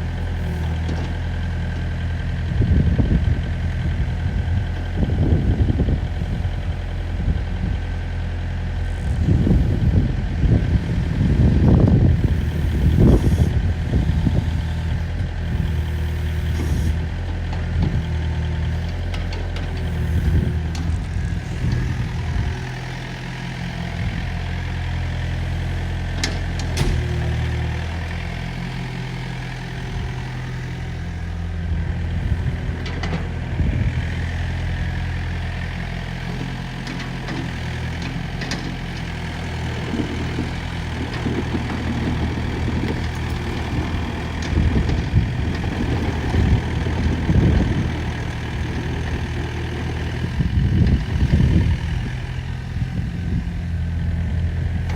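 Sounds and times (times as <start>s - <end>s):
excavator diesel engine idling: 0.0s - 54.9s.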